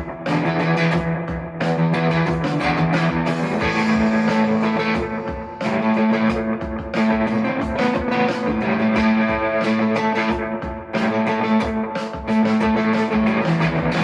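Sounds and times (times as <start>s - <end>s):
overdriven electric guitar chords: 0.0s - 14.0s.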